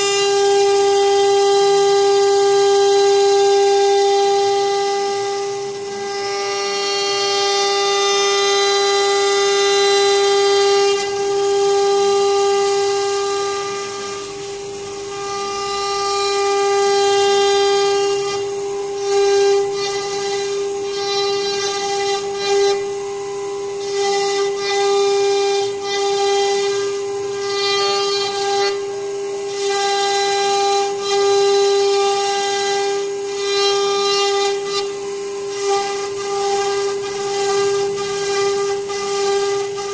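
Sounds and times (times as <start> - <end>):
hiss of bit cutting wood: 0.0 - 39.9
router spindle high-pitched whine: 0.0 - 39.9.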